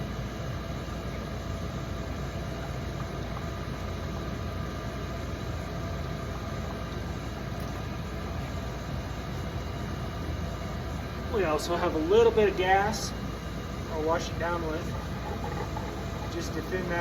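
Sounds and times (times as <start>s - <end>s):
low machine rumble with hiss: 0.0s - 17.0s.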